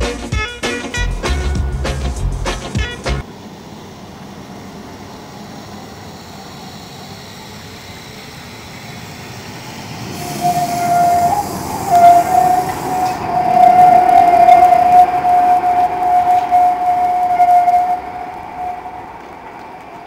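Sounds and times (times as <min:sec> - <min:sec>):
tram rumbling: 0:00.0 - 0:20.0
tram wheels squealing: 0:00.3 - 0:20.0.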